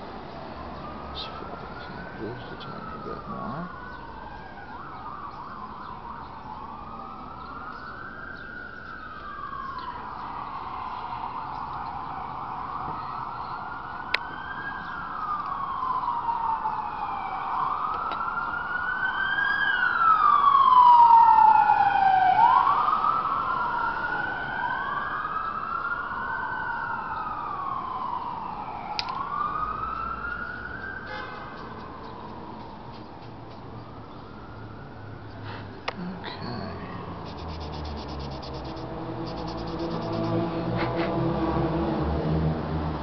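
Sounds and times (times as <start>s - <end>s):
emergency siren wailing: 0.6s - 32.9s, 33.9s - 35.4s, 37.0s - 43.0s.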